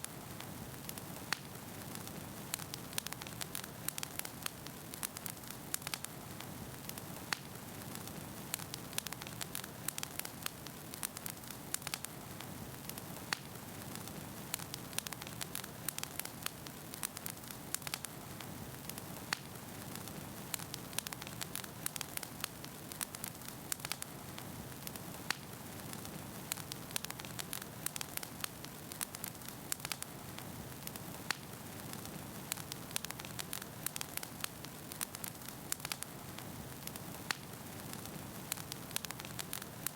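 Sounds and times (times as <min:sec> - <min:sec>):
logs crackling and popping: 0:00.0 - 0:39.9
low hiss of flames: 0:00.0 - 0:39.9.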